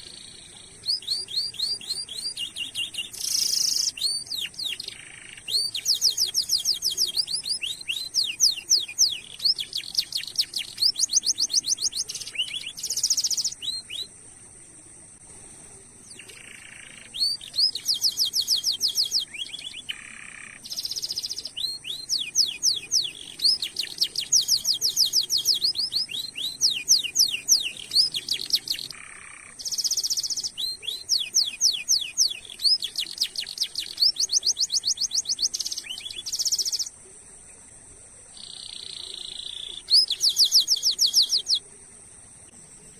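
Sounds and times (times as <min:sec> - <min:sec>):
canary singing: 0:00.0 - 0:14.1, 0:16.1 - 0:37.0, 0:38.4 - 0:41.6.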